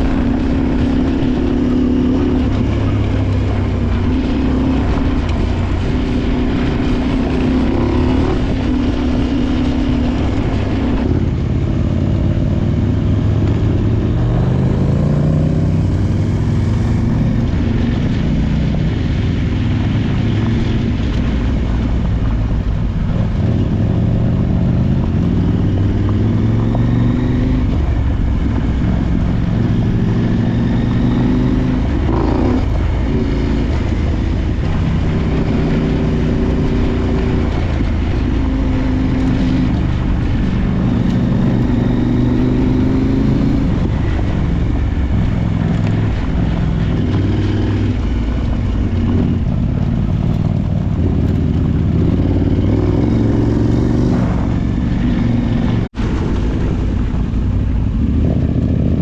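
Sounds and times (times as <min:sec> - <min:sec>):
constant low rumble: 0:00.0 - 0:59.0
motorcycle engine revving: 0:00.0 - 0:59.0.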